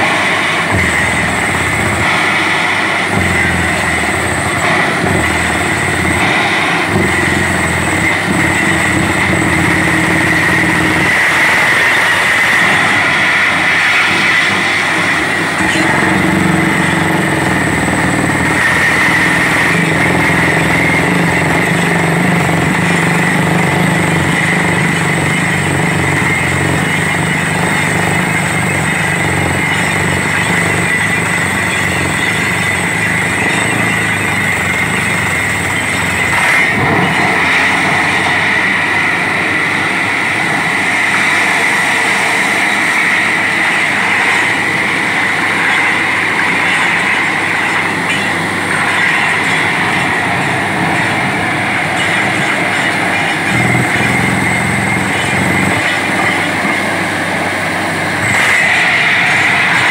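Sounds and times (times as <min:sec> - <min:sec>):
drilling rig running: 0:00.0 - 0:59.9
high-pitched whine: 0:00.0 - 0:59.9.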